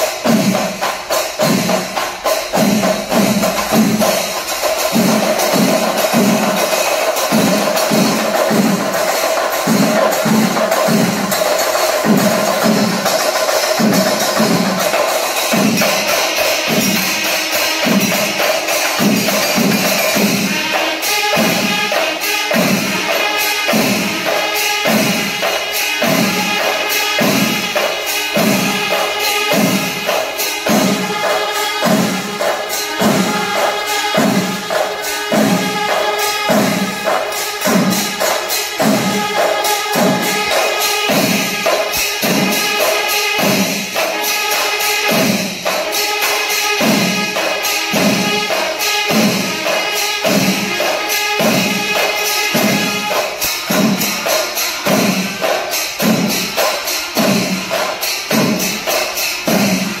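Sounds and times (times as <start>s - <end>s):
drums beating heavy pulse: 0.0s - 44.2s, 46.8s - 50.8s, 51.4s - 60.0s
hand cymbals clashing: 0.0s - 60.0s.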